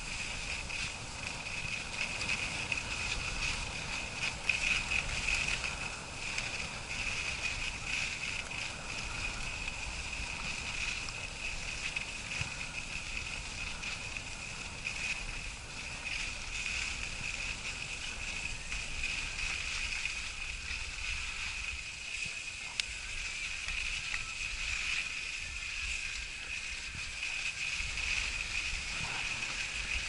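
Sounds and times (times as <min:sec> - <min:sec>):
skis sliding over snow: 0:00.0 - 0:30.0
wind rumbling on microphone: 0:00.0 - 0:30.0.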